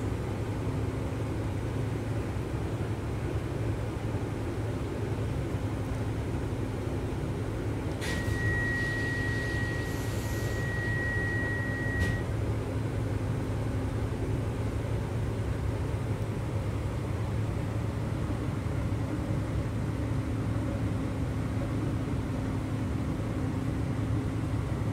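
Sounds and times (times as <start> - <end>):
electric train rumbling: 0.0 - 24.9.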